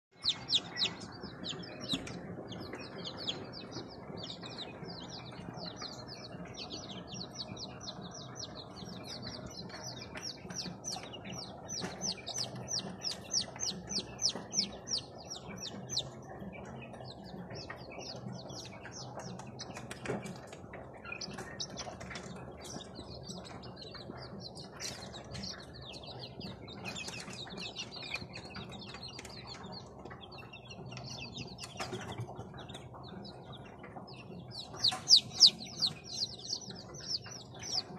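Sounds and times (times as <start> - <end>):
chicks peeping: 0.1 - 37.9.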